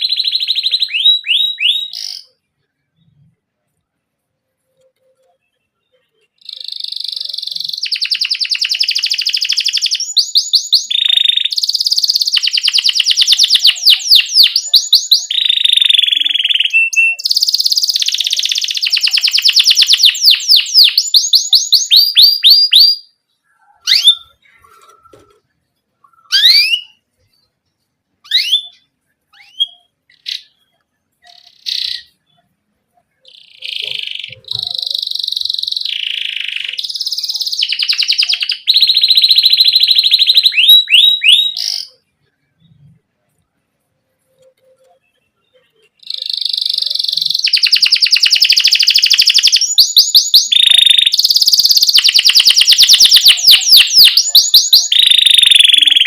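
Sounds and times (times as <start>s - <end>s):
canary singing trills: 0.0s - 43.2s, 44.0s - 56.0s.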